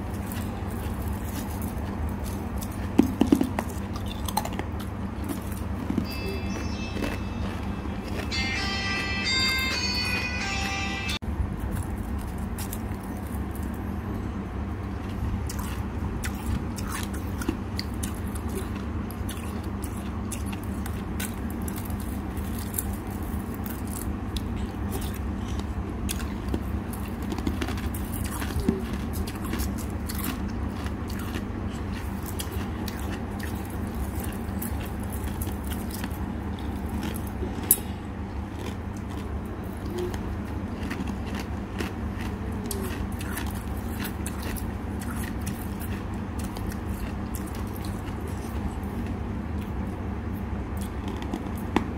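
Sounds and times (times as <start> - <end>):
frost crunching when chewed: 0.0 - 8.4, 11.6 - 13.9, 14.9 - 51.9
steady low hum: 0.0 - 51.9.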